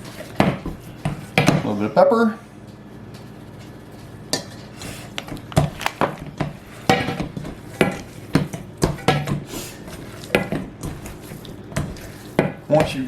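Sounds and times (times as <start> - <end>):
mixing food by hand in bowl: 0.0 - 1.9, 2.9 - 13.0.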